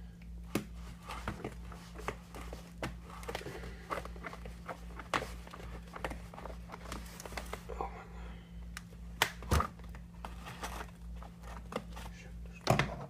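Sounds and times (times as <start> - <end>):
steady low hum: 0.0 - 13.0
packaging clicks and rustles: 0.6 - 7.7, 8.8 - 12.3.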